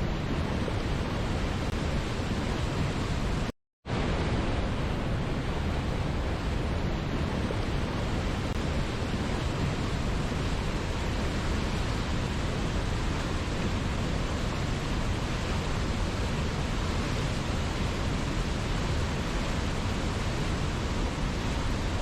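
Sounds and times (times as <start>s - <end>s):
waterfall rushing: 0.4s - 22.0s.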